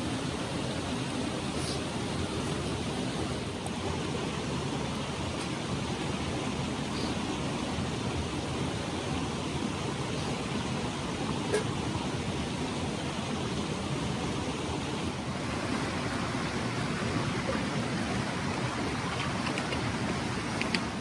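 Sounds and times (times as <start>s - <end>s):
mountain stream flowing: 0.0s - 21.0s.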